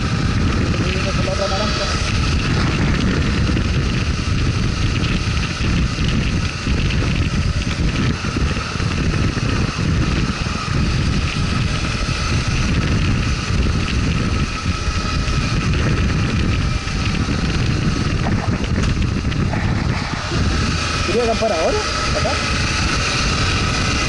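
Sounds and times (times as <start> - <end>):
high whine: 0.0 - 24.0
motorcycle running: 0.0 - 24.0
wind rumbling on microphone: 0.0 - 24.0.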